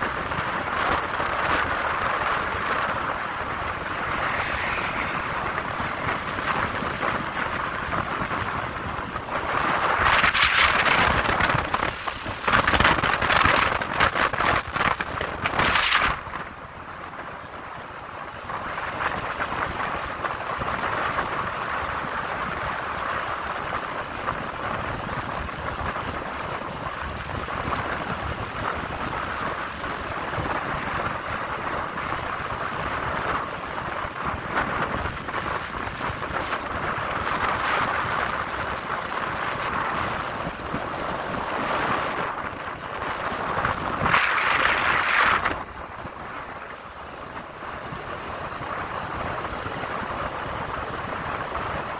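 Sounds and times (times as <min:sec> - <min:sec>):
road and engine noise: 0:00.0 - 0:51.9
wind rushing over microphone: 0:00.0 - 0:51.9.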